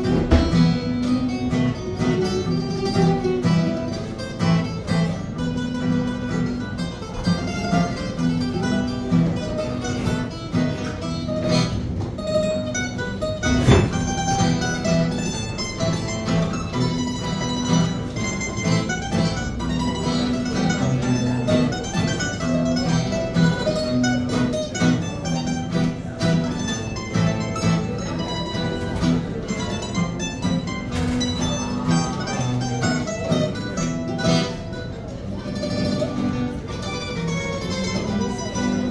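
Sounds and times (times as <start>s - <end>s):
mandolin plucking: 0.0s - 38.9s
strummed acoustic guitars: 0.0s - 38.9s.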